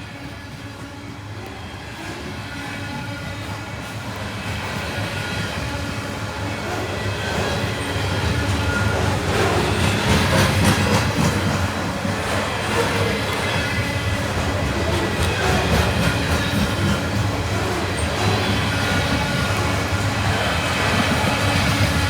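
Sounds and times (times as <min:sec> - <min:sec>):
freight train wheels clacking: 0:00.0 - 0:22.0.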